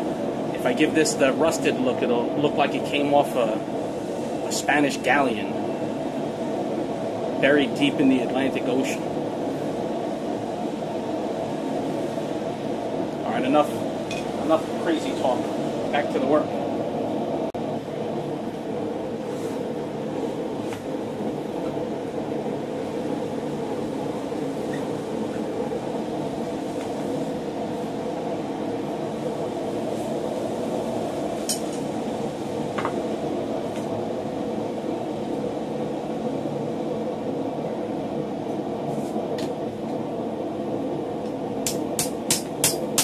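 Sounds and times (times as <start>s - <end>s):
forge running: 0.0s - 43.0s.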